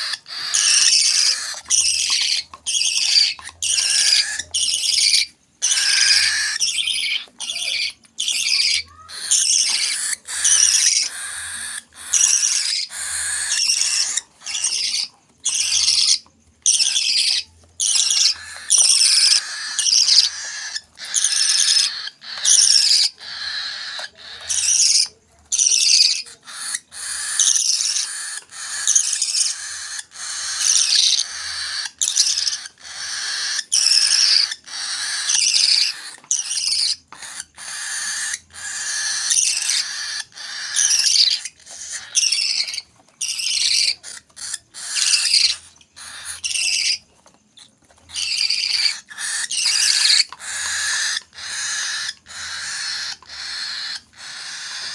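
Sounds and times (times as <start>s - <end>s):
parrot chicks crying: 0.0s - 54.9s.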